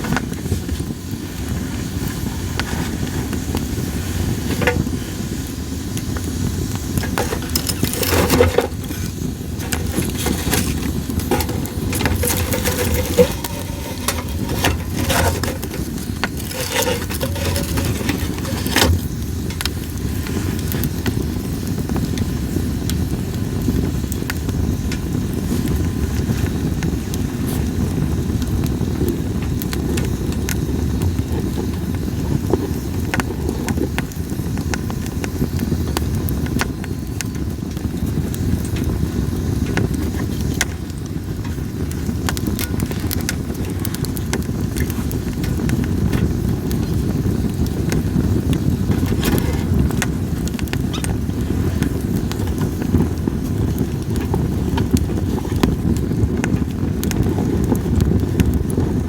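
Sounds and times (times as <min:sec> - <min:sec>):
campfire crackling and popping: 0:00.0 - 0:59.0
low fire rumble: 0:00.0 - 0:59.0.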